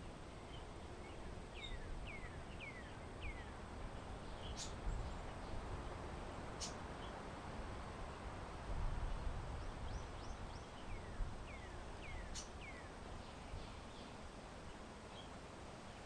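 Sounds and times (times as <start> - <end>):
songbird chirping: 0.0 - 7.2, 9.6 - 16.0
low wind rumble: 0.0 - 16.0.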